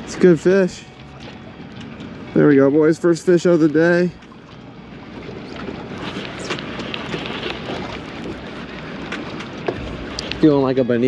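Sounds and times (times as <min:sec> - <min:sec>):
water rushing around boat: 0:00.0 - 0:11.0.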